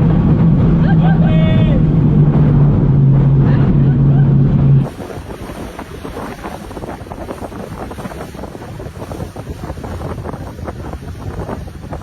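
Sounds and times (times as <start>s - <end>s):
boat and water rushing: 0.0s - 12.0s
wind buffeting microphone: 0.0s - 12.0s.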